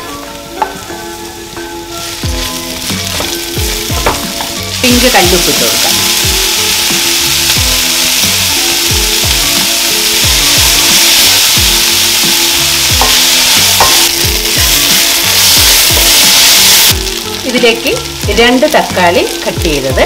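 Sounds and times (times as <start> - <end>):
background music beat: 0.0 - 20.0
onions sizzling in hot oil: 0.0 - 20.0.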